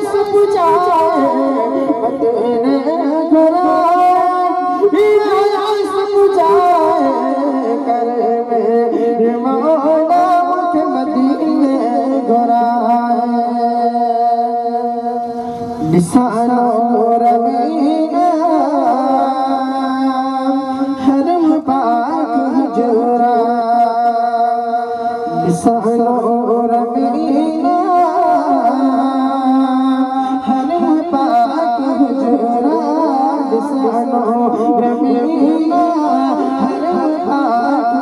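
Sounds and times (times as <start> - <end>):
man singing into microphone: 0.0 - 38.0.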